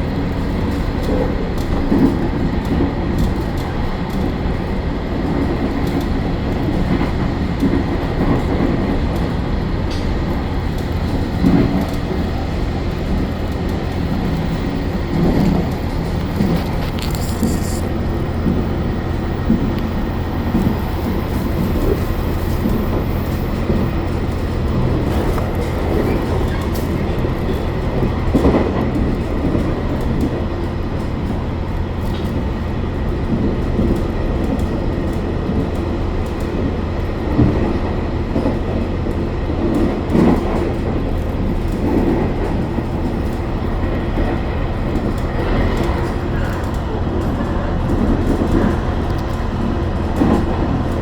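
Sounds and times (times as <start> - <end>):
train rumble on rails: 0.0 - 51.0.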